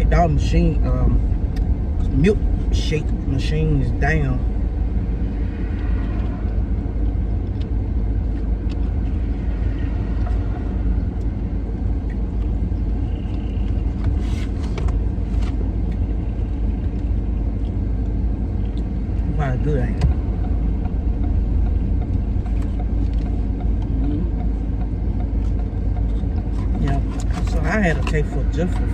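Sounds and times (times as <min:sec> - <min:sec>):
car cabin rumble: 0:00.0 - 0:28.9.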